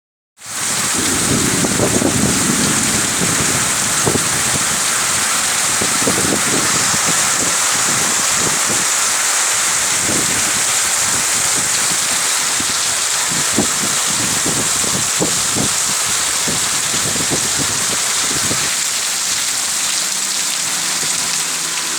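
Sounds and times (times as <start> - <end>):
heavy rain pouring: 0.4 - 21.9
raindrops pattering on surfaces: 0.4 - 21.9.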